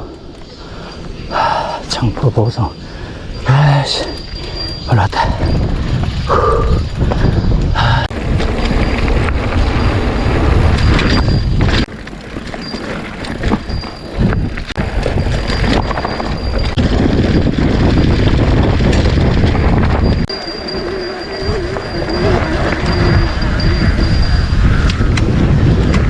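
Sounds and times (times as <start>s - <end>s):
bike rumble and rattling clicks: 0.0s - 1.6s, 4.1s - 26.0s
wind buffeting microphone: 0.0s - 26.0s.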